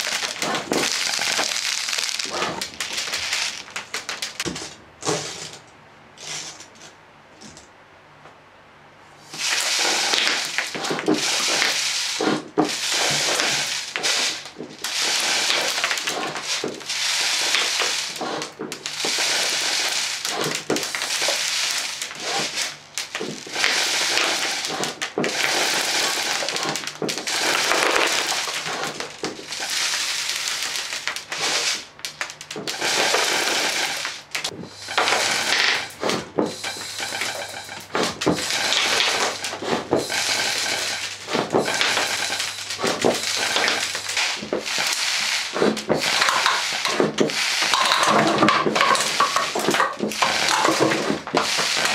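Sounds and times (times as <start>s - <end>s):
air gun firing bursts: 0.0s - 4.6s, 9.3s - 51.9s
pellets striking target: 0.0s - 4.7s, 9.4s - 51.9s.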